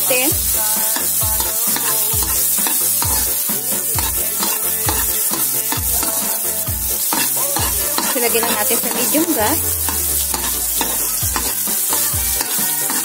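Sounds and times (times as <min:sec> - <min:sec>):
background music with a beat: 0:00.0 - 0:13.0
onions sizzling in oil: 0:00.0 - 0:13.0
metal spoon scraping a pan: 0:00.1 - 0:13.0.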